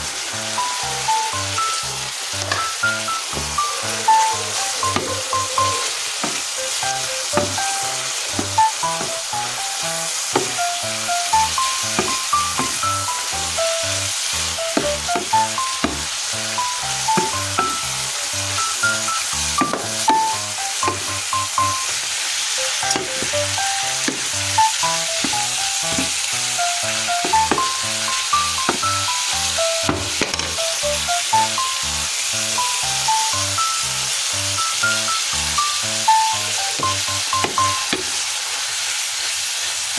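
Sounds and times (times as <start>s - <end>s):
background music with steady beat: 0.0s - 22.0s, 22.6s - 38.1s
food sizzling in a pan: 0.0s - 39.9s.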